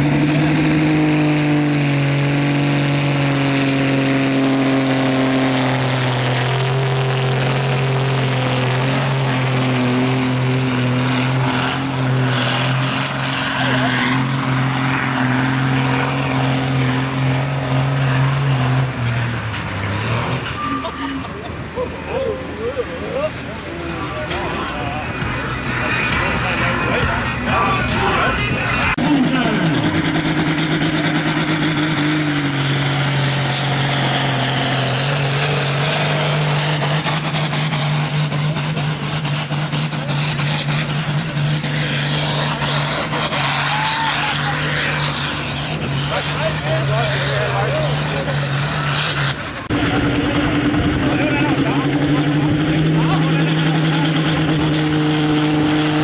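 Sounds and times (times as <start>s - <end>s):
tractor diesel engine at full throttle: 0.0s - 56.0s.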